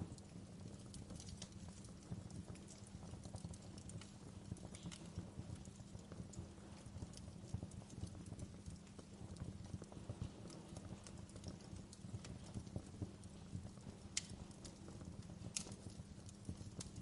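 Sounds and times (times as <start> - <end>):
flames rumbling: 0.0 - 17.0
firewood popping and snapping: 0.1 - 17.0.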